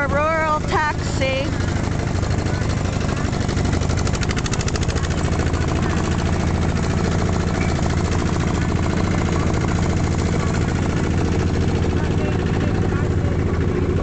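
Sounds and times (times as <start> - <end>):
tractor engine chugging: 0.0 - 14.0.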